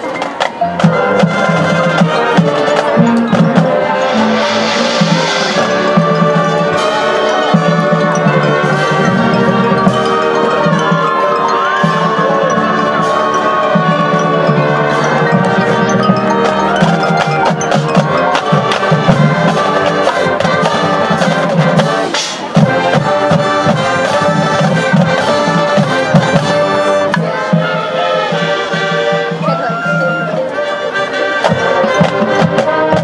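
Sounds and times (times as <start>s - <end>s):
sharp percussion strikes: 0.0s - 28.0s
marching band playing: 0.0s - 33.0s.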